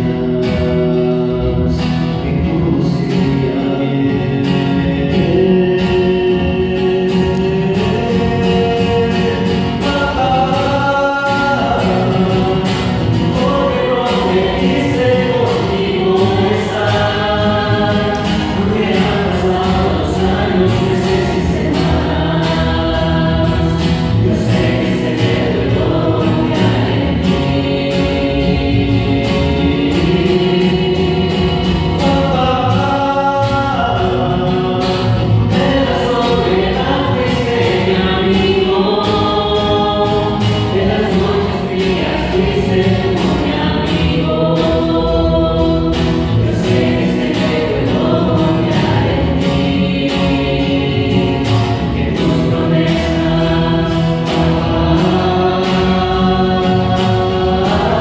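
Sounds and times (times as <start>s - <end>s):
mixed choir singing a hymn: 0.0s - 58.0s
strummed guitar: 0.0s - 58.0s
upright bass: 0.0s - 58.0s.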